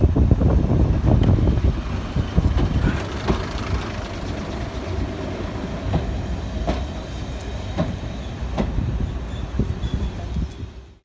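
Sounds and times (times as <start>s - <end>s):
diesel train rumbling: 0.0s - 11.0s
wheels clicking over rail joints: 0.4s - 10.7s.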